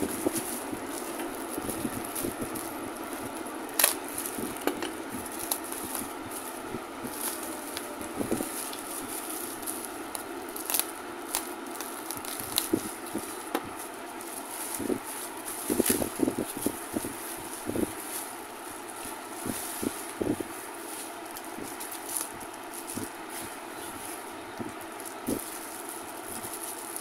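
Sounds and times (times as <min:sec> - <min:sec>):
bubble wrap crackling: 0:00.0 - 0:27.0.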